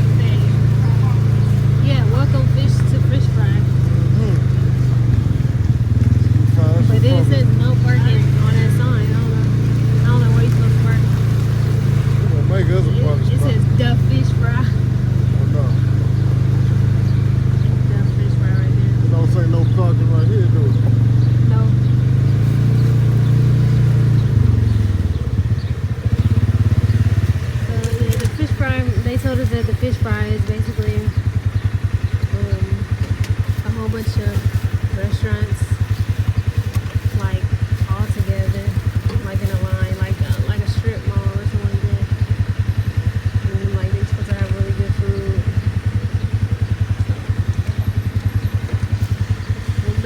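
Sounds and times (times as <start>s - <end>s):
car engine and road rumble: 0.0s - 50.0s.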